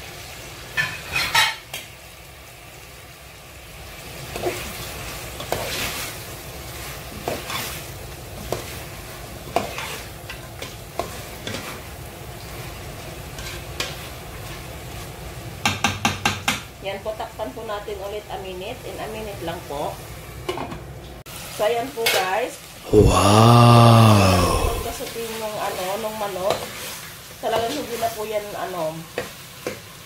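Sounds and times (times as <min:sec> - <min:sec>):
chicken sizzling in a pot: 0:00.0 - 0:22.8, 0:25.2 - 0:30.0.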